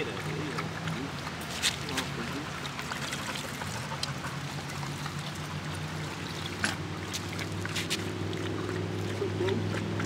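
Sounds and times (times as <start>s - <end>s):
dog lapping water: 0.0s - 10.0s.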